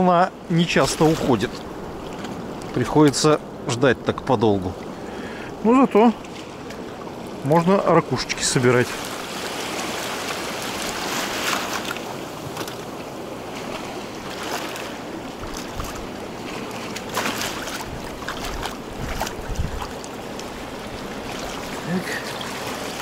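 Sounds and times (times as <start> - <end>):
small waves washing on shore: 0.0 - 23.0.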